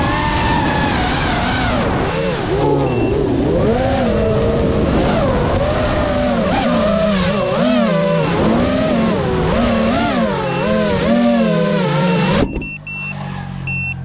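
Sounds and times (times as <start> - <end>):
quadcopter motors buzzing whine: 0.0 - 14.0.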